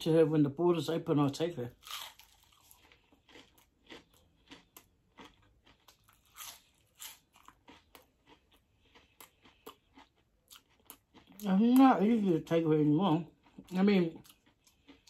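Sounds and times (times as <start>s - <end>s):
person chewing crunchy food: 1.7s - 15.0s.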